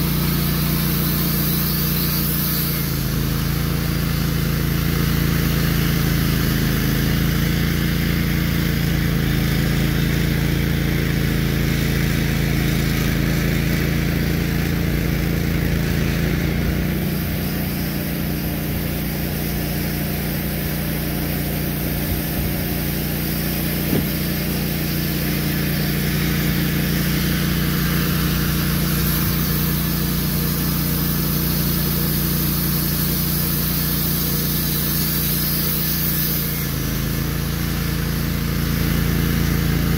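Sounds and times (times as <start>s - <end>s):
sawmill gasoline engine running: 0.0s - 39.9s.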